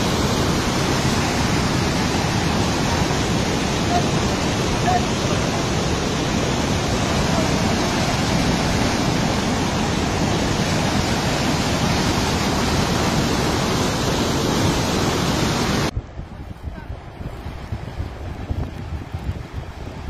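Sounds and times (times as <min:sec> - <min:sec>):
flood water rushing over rock: 0:00.0 - 0:20.0.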